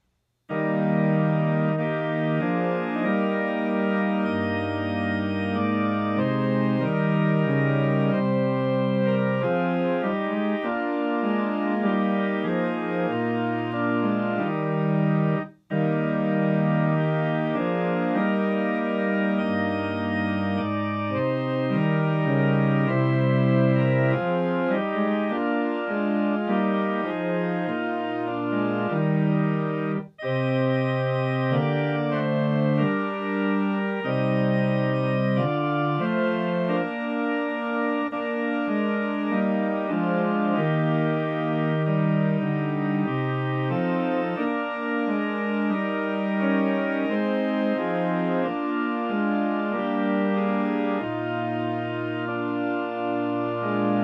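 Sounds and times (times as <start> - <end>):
organ playing held chords: 0.5 - 54.0.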